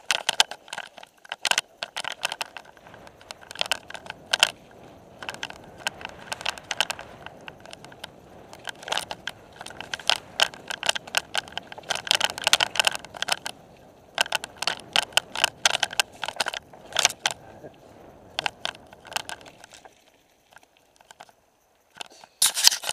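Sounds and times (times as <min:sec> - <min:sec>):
tyre and wind rush: 0:00.0 - 0:19.9
mountain bike rattling and clattering: 0:00.0 - 0:22.9.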